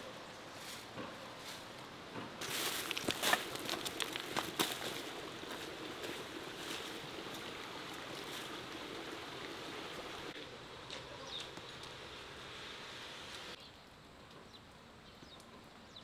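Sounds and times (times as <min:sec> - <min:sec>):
light rain falling: 0:02.4 - 0:16.0.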